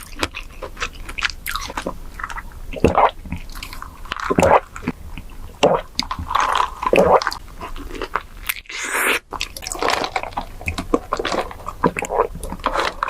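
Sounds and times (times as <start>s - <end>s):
wet chewing of tapioca pearls: 0.0s - 13.0s.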